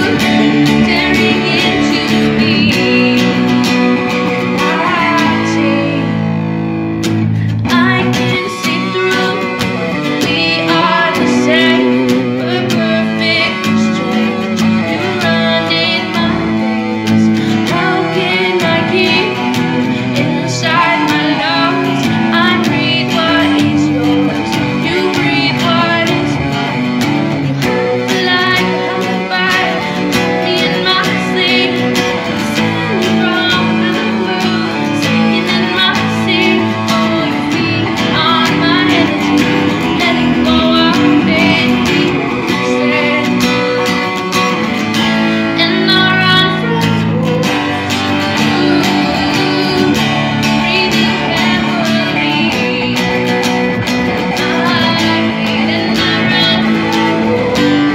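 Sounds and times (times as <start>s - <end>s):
strummed acoustic guitar: 0.0s - 57.9s
woman singing: 0.0s - 57.9s.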